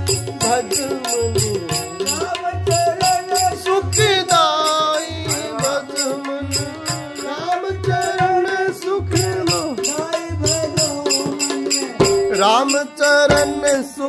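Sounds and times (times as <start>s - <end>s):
fast jingling percussion: 0.0s - 14.0s
hand drum beating: 0.0s - 14.0s
harmonium melody: 0.0s - 14.0s.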